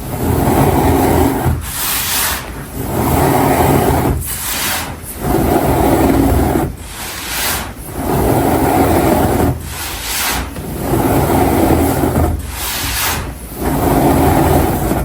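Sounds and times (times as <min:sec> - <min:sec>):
powder rubbed by hand: 0:00.0 - 0:15.0.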